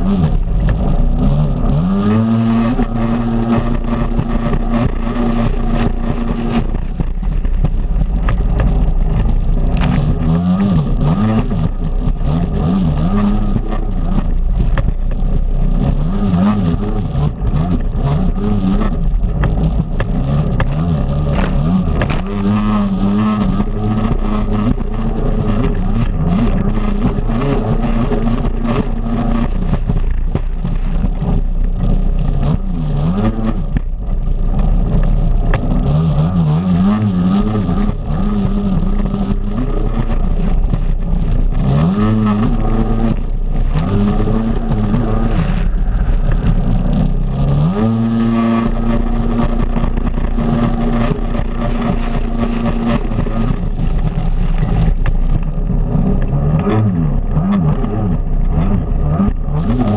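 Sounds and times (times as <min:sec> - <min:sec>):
jet ski engine revving: 0:00.0 - 0:59.9
water spray and wind on microphone: 0:00.0 - 0:59.9.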